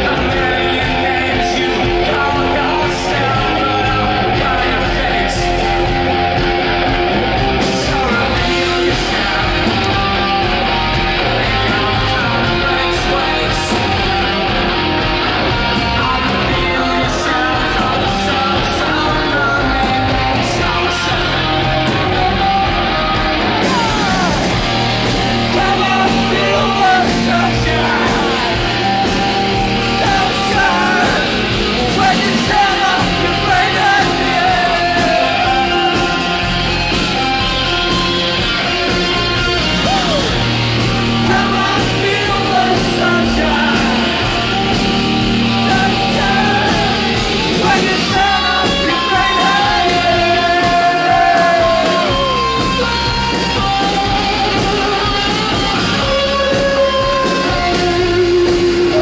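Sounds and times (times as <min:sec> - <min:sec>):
lead vocal singing: 0:00.0 - 0:59.0
live rock band playing: 0:00.0 - 0:59.0.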